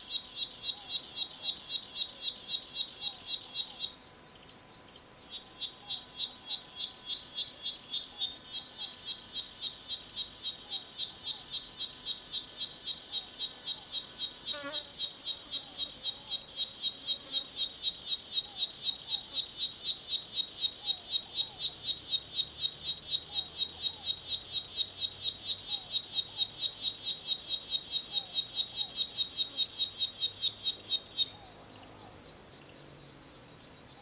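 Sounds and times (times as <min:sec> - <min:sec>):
cicada pulsed call: 0:00.0 - 0:34.0.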